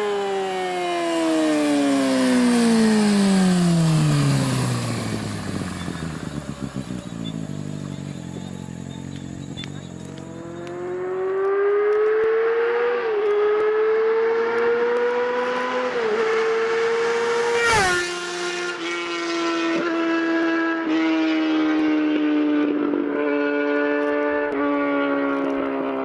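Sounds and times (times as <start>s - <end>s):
motorcycle accelerating and passing: 0.0s - 26.0s.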